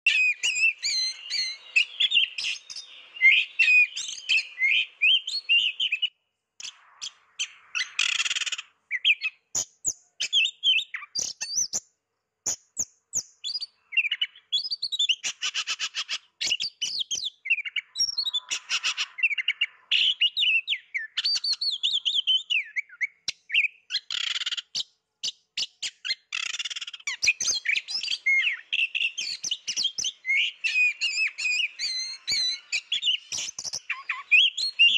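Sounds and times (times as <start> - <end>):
bird singing whistled phrases: 0.0 - 11.8, 12.5 - 34.9.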